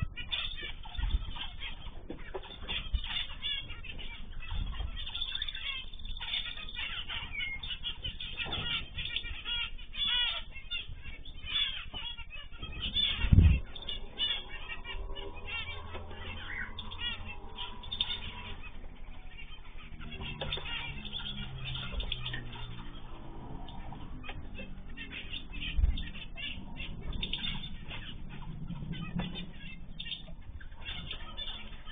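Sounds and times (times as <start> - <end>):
finches chirping: 0.0 - 31.9.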